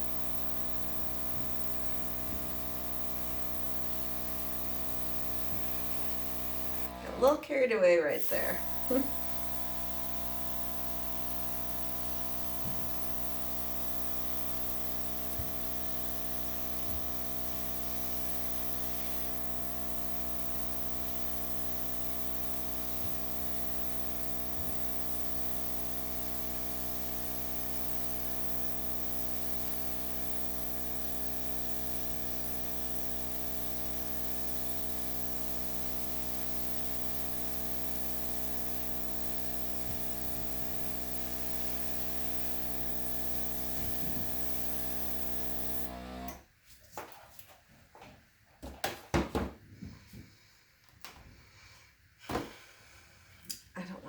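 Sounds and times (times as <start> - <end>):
airbrush compressor humming: 0.0 - 46.4.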